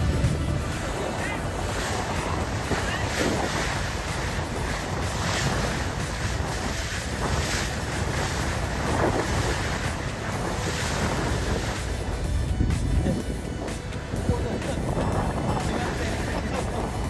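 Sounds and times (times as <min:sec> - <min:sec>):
waves washing: 0:00.0 - 0:17.0
wind buffeting microphone: 0:00.0 - 0:17.0.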